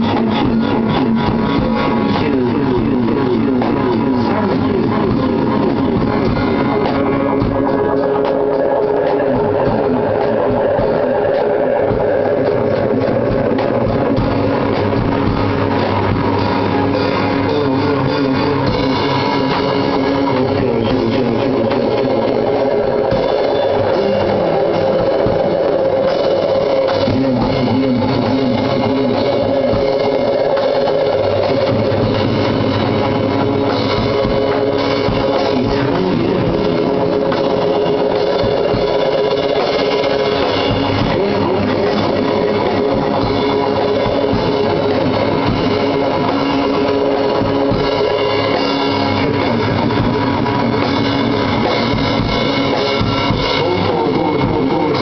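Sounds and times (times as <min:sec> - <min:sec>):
drum kit and cymbals: 0:00.0 - 0:55.0.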